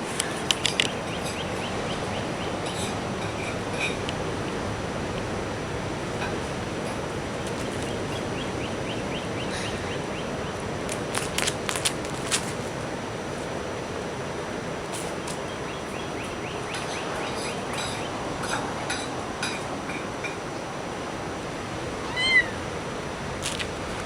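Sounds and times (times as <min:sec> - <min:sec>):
beach background noise: 0:00.0 - 0:24.0.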